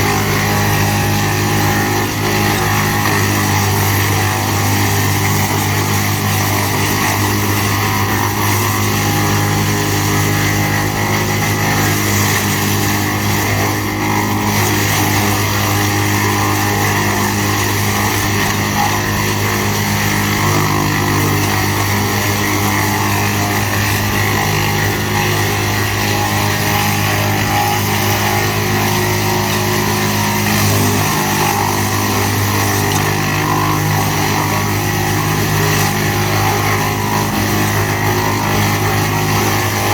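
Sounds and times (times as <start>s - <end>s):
tractor engine running woodchipper: 0.0s - 39.9s.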